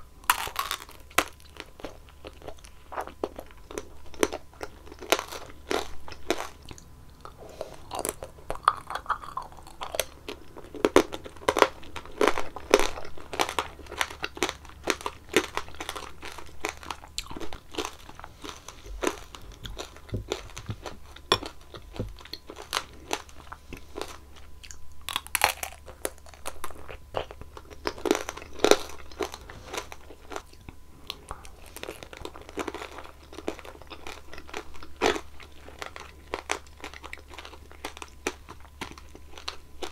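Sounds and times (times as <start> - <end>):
candy shell crunching: 0.2 - 39.9.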